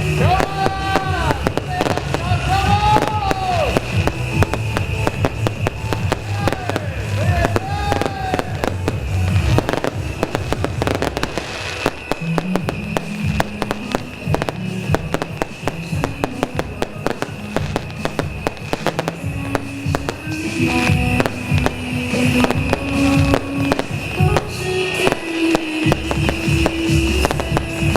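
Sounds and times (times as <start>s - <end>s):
firecrackers crackling: 0.0s - 27.9s
music: 0.0s - 27.9s
rockets whistling: 0.0s - 27.9s.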